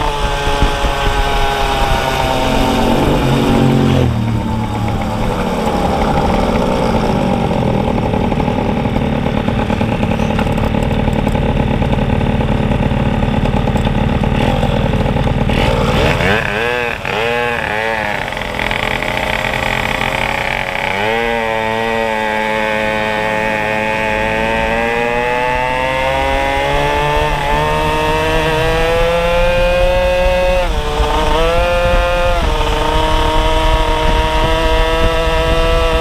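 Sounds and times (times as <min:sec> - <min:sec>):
two-stroke moped engine accelerating: 0:00.0 - 0:36.0.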